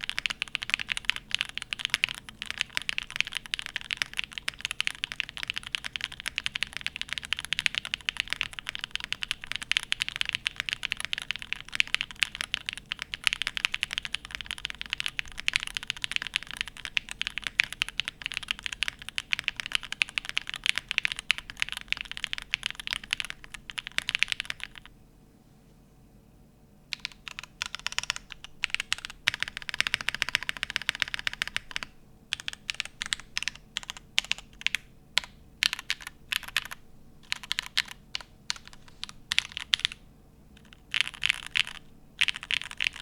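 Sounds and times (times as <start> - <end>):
fast mechanical keyboard typing: 0.0 - 24.9, 26.9 - 40.0, 40.6 - 43.0.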